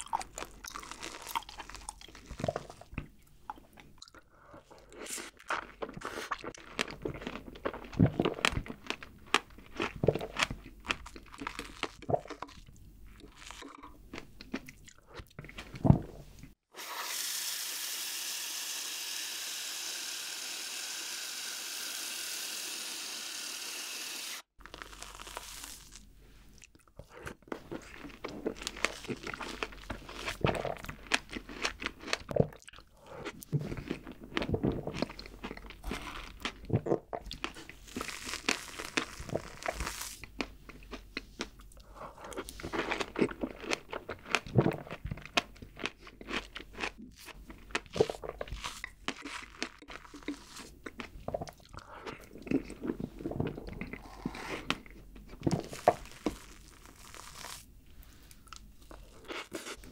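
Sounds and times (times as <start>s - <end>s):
mouth noises of eating: 0.0s - 16.6s, 24.6s - 59.9s.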